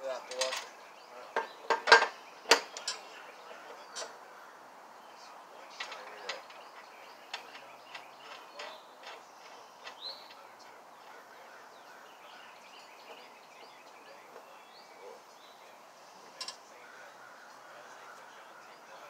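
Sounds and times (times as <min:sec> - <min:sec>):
faint bird chirps: 0:00.0 - 0:19.0
low background hiss: 0:00.0 - 0:19.0.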